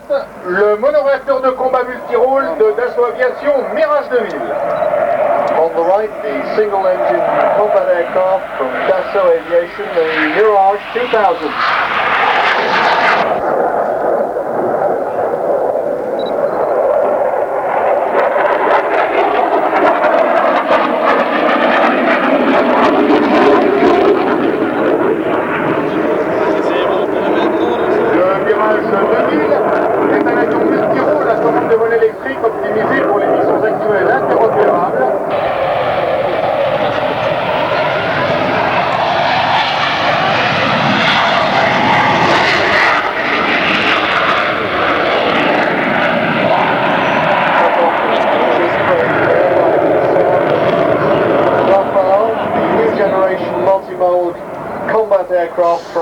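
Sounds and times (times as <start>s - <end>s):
jet engine roaring with crackle: 0.0s - 56.0s.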